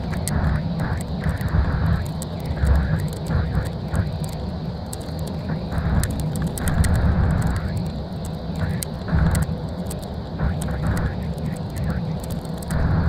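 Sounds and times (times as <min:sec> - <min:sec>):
small clicks and rattles: 0:00.0 - 0:12.8
rushing road and wind noise: 0:00.0 - 0:13.0.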